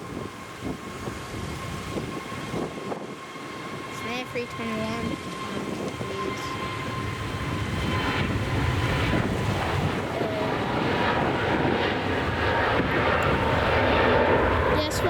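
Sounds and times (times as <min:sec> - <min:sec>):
faint steady whine: 0:00.0 - 0:15.0
jet engines rumbling: 0:00.0 - 0:15.0.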